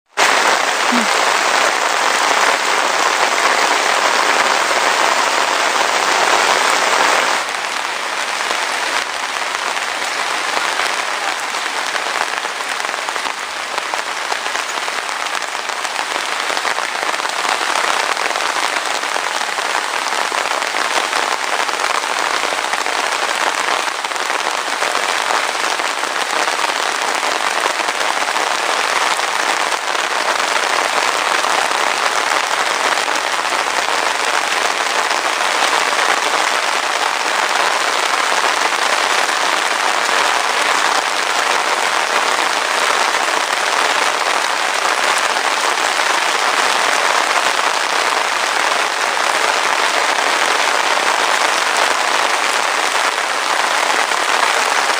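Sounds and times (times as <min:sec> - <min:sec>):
heavy rain falling: 0:00.1 - 0:54.9.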